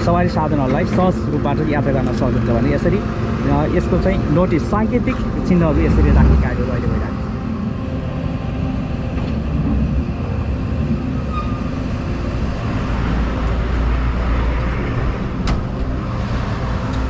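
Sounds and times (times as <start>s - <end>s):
heavy vehicle engines rumbling: 0.0s - 17.0s.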